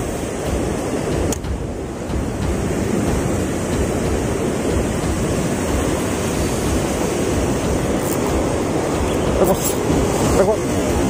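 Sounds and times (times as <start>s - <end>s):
surf breaking on rocks: 0.0s - 11.0s
wind on microphone: 0.0s - 11.0s.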